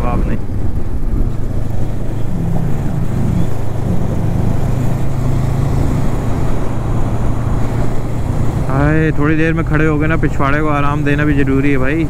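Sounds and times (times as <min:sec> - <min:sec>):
motorcycle engine cruising: 0:00.0 - 0:12.0
rushing wind: 0:00.0 - 0:12.0.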